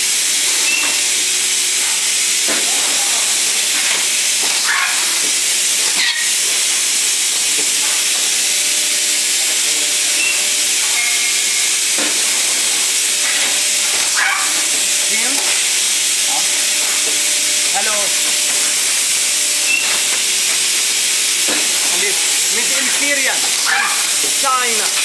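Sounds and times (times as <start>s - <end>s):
compressed air hissing: 0.0s - 25.0s
faint machine hum: 0.0s - 25.0s.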